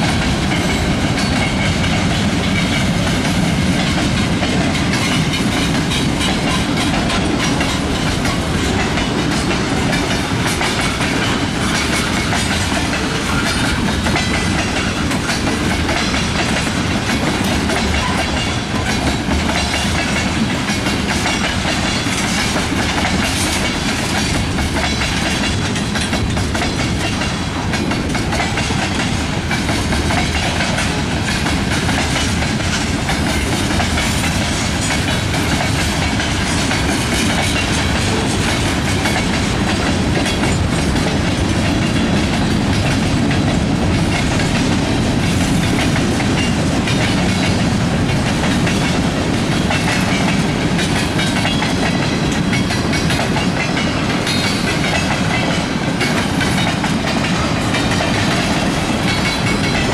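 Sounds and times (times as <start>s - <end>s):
train wheels rumbling on rail: 0.0s - 59.9s
wheels clicking over rail joints: 0.0s - 59.9s.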